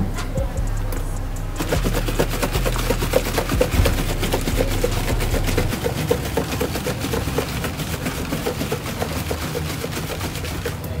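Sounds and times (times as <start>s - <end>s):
paper bag shaken rustling: 1.6s - 11.0s.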